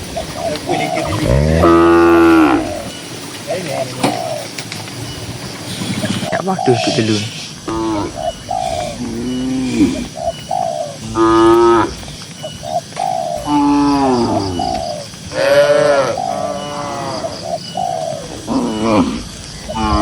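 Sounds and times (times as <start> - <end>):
cows mooing: 0.0 - 3.0, 5.7 - 12.2, 13.4 - 20.0.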